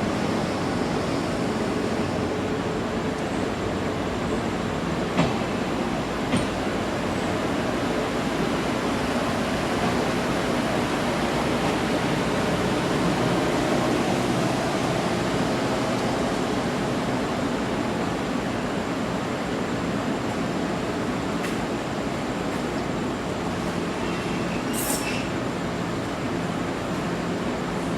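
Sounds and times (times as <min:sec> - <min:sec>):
train rolling rumble: 0:00.0 - 0:27.9.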